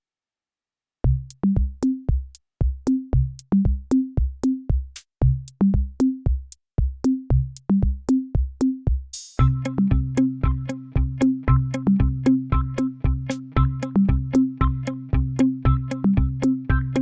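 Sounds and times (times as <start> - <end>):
electronic drum-machine beat: 1.1 - 17.0.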